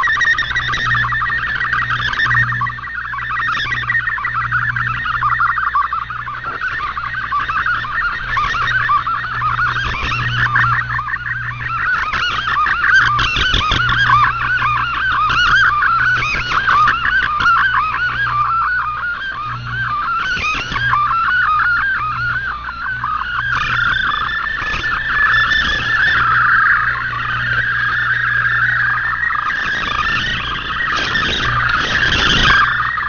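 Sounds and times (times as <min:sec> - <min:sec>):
low hum: 0:00.0 - 0:33.0
warbling radio data tones: 0:00.0 - 0:33.0.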